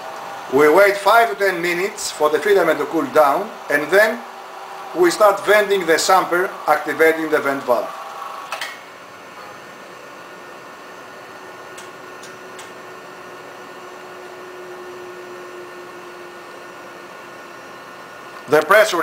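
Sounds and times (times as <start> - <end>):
vacuum pump hiss and hum: 0.0 - 19.0.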